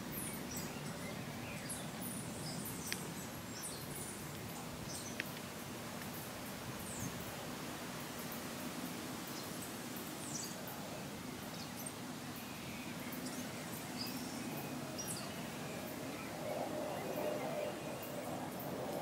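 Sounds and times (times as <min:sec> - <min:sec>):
outdoor background hum: 0:00.0 - 0:19.0
songbirds chirping: 0:00.0 - 0:19.0.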